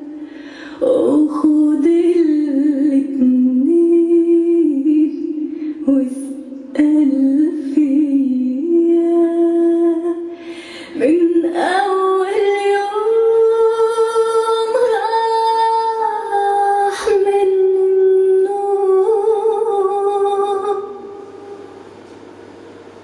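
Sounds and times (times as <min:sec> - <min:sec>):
woman singing long notes: 0:00.0 - 0:10.4, 0:11.0 - 0:21.6.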